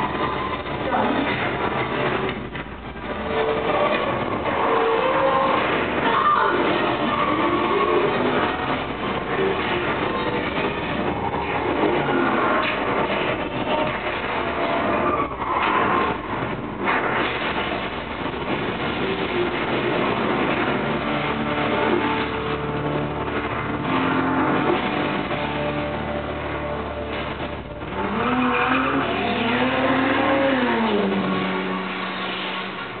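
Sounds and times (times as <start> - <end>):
engine and crash noise: 0.0 - 33.0
sliding pitched tone: 0.0 - 33.0.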